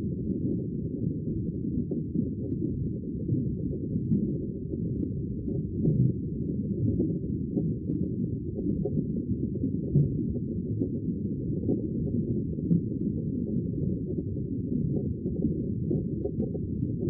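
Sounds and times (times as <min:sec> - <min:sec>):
sea low muffled rumble: 0:00.0 - 0:17.0.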